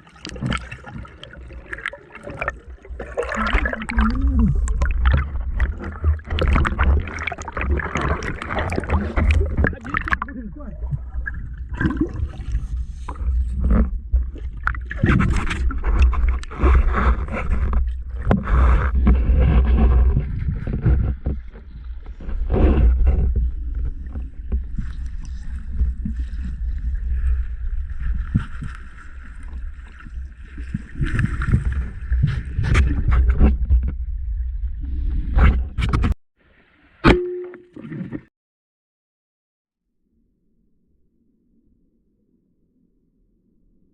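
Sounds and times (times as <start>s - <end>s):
water sloshing and splashing: 0.0s - 36.1s.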